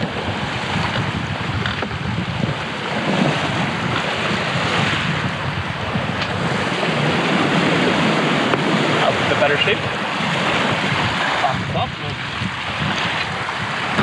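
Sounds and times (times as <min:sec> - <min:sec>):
sea rushing: 0:00.0 - 0:14.0
wind buffeting microphone: 0:00.0 - 0:14.0.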